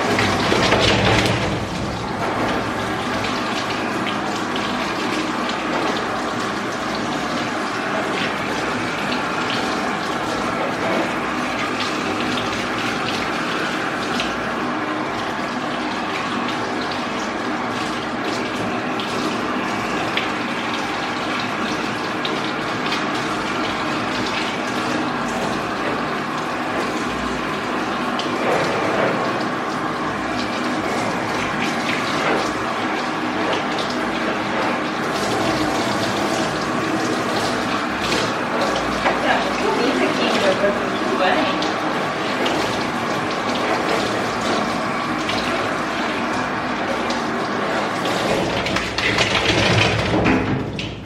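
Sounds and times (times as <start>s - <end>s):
water spraying: 0.0s - 51.0s.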